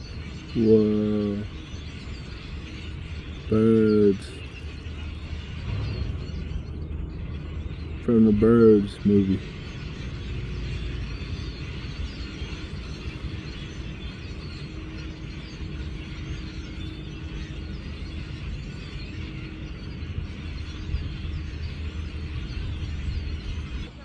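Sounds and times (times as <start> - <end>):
large flock of birds chirping: 0.0 - 24.0
steady low rumble: 0.0 - 24.0.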